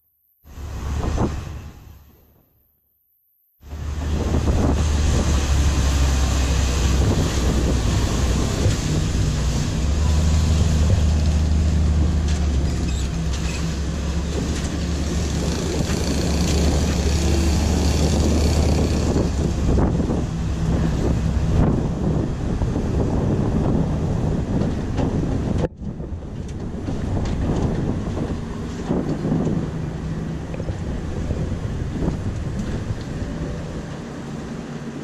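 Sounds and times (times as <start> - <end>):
travel noise: 3.6 - 35.0
vehicle engine humming: 3.6 - 35.0.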